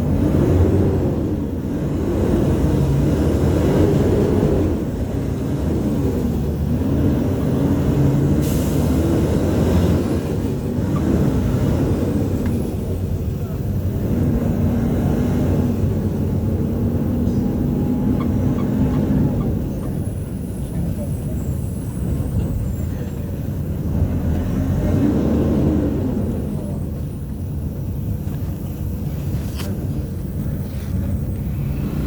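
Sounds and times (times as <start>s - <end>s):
bus engine: 0.0s - 32.0s
road rumble: 0.0s - 32.0s.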